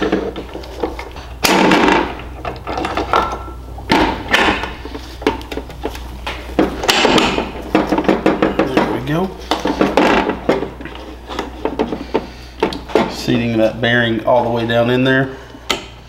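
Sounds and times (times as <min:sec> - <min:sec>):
metal gears clunking and rattling: 0:00.0 - 0:13.2.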